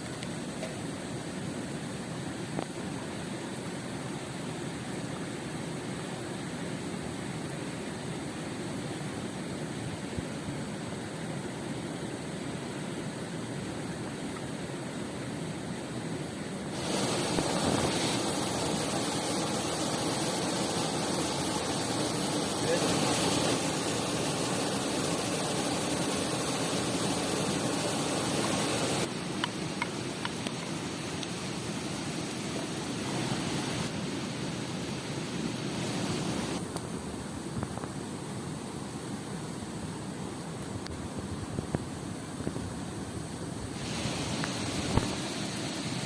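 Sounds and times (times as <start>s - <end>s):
river and waterfall rushing: 1.5s - 36.7s, 43.7s - 46.0s.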